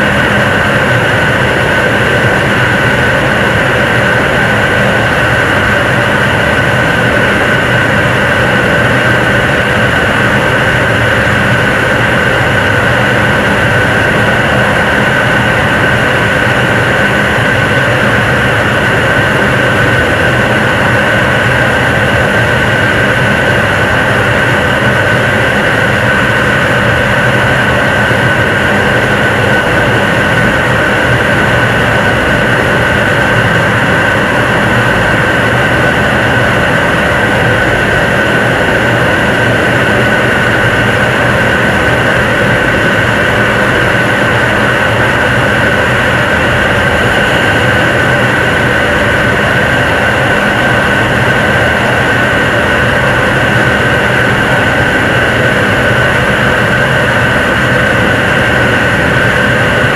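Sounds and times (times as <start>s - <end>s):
rocket engine roaring: 0.0s - 59.9s
steady high-pitched tone: 0.0s - 59.9s.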